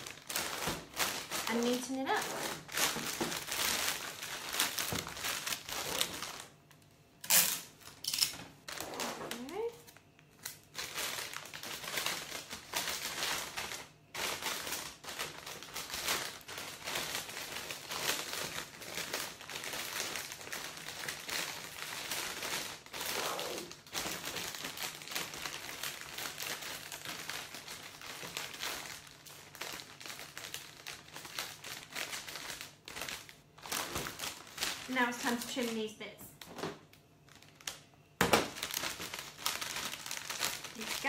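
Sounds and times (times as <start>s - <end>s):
cellophane crinkling: 0.0s - 41.0s.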